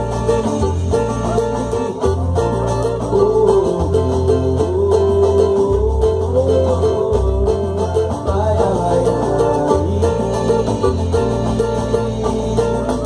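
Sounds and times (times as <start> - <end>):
bass line: 0.0 - 13.0
percussion beat: 0.0 - 13.0
plucked string instruments: 0.0 - 13.0.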